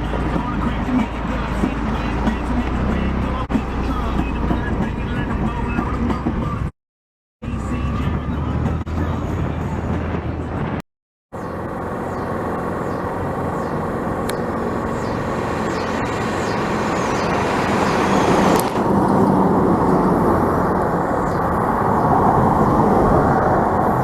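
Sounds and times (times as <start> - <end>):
vehicle engine and road noise: 0.0 - 6.8, 7.4 - 24.0.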